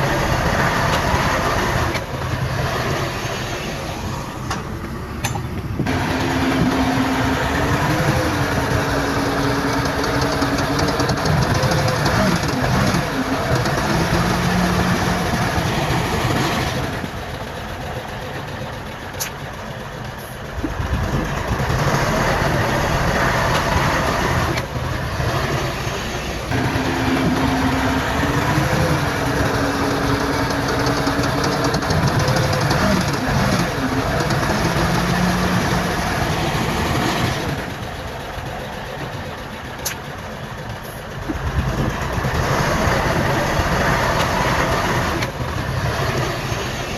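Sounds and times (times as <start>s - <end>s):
heavy machinery diesel engines: 0.0s - 46.9s.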